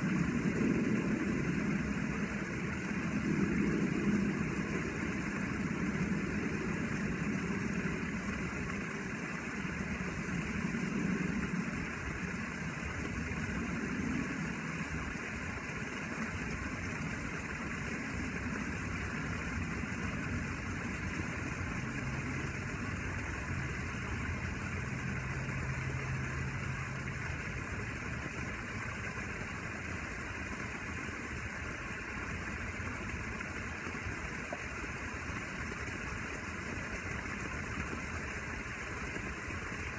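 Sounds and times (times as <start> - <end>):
low engine-like hum: 0.0 - 39.9.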